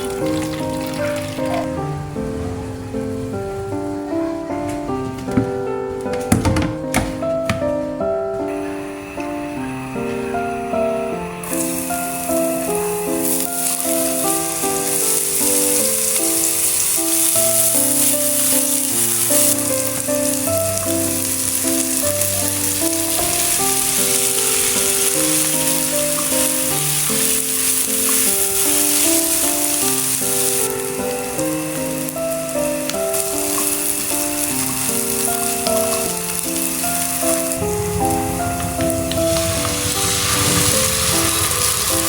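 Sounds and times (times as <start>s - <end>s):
food sizzling in a pan: 0.0s - 3.3s, 8.4s - 42.0s
soft background music: 0.0s - 42.0s.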